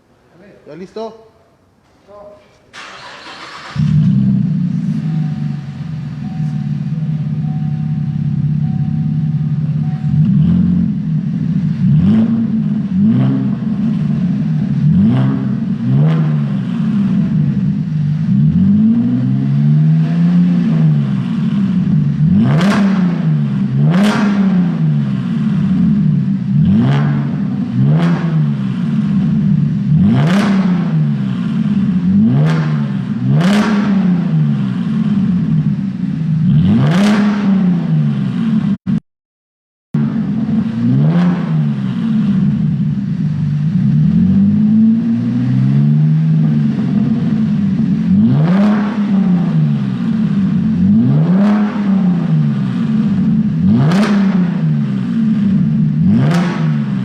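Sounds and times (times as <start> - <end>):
car engine idling: 1.6 - 33.3, 40.0 - 57.0
car engine revving: 2.7 - 39.0, 40.0 - 57.0.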